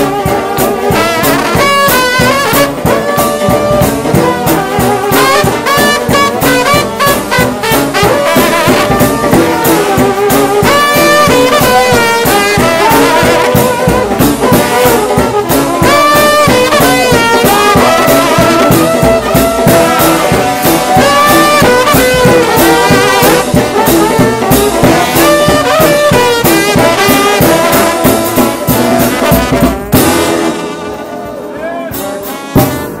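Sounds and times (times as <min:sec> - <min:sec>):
steady drum beats: 0:00.0 - 0:33.0
trombone-led brass band playing: 0:00.0 - 0:33.0.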